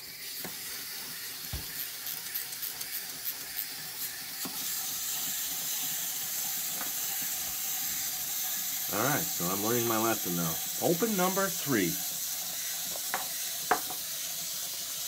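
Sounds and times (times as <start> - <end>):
clockwork gears whirring: 0.0 - 15.0.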